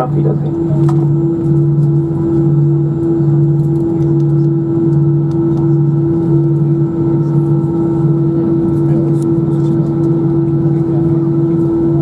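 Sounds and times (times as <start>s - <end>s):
jet engines idling inside cabin: 0.0s - 12.0s.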